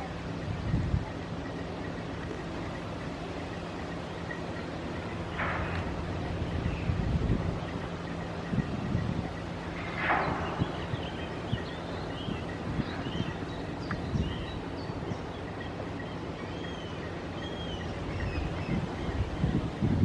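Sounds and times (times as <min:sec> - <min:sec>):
small birds chirping: 0:00.0 - 0:19.9
ship engine hum: 0:00.0 - 0:20.0
wind rumbling on microphone: 0:00.0 - 0:20.0.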